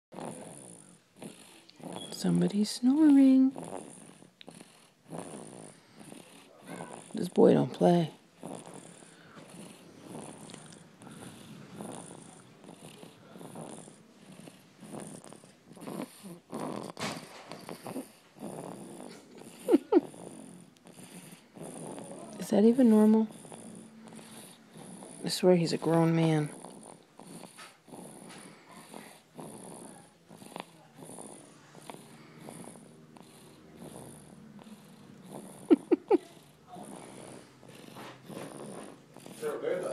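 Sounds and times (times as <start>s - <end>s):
baby snoring: 0.1s - 39.9s.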